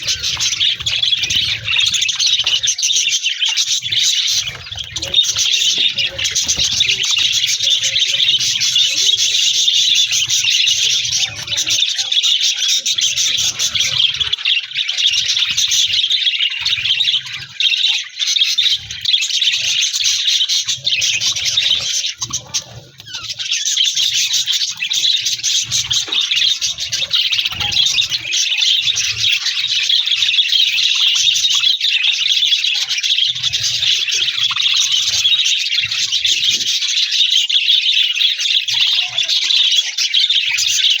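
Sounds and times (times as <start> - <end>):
budgerigars chattering: 0.0 - 41.0.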